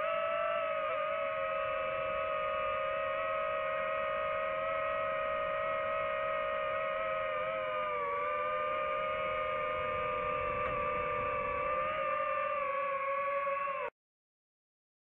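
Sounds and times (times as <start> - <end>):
drone propellers whining: 0.0 - 13.9.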